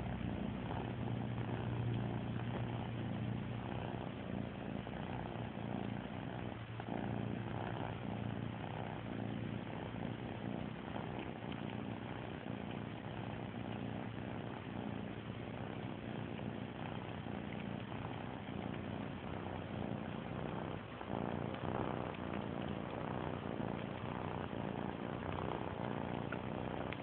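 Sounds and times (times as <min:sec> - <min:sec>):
cat purring: 0:00.0 - 0:27.0.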